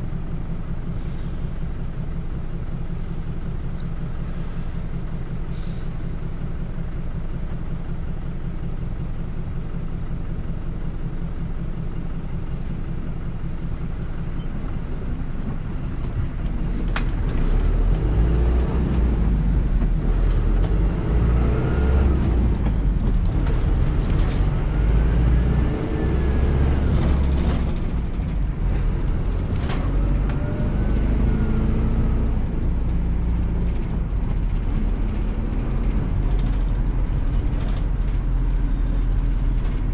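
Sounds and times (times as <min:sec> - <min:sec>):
bus engine rumbling: 0:00.0 - 0:39.9
bus engine whine: 0:00.0 - 0:39.9.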